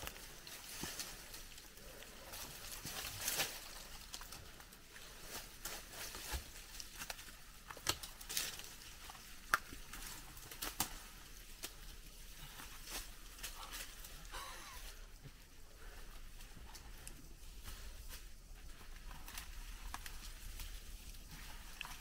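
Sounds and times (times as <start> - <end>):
footsteps on dry leaves and twigs: 0.0 - 22.0.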